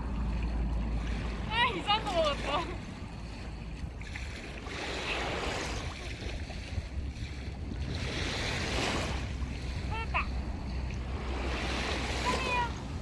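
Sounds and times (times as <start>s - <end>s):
sea waves washing onto shore: 0.0s - 13.0s
wind rumbling on microphone: 0.0s - 13.0s.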